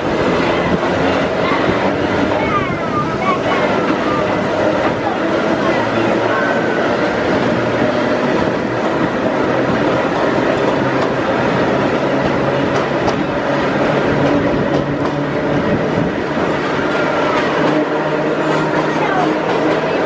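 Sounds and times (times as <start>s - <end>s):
train wheels running on rails: 0.0s - 20.0s.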